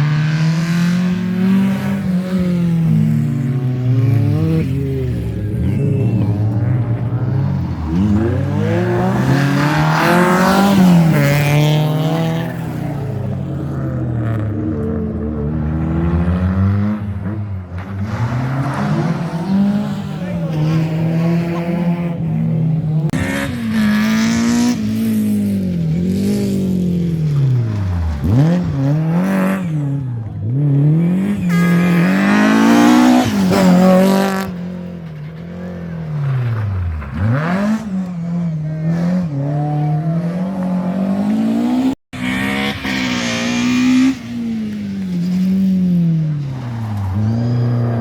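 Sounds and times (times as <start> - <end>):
rally car engine revving: 0.0 - 48.0.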